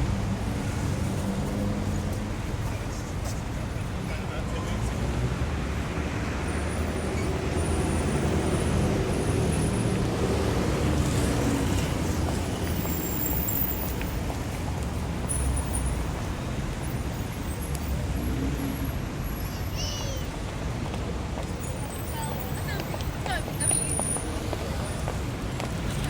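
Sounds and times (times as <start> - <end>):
rumble of passing traffic: 0.0 - 26.0.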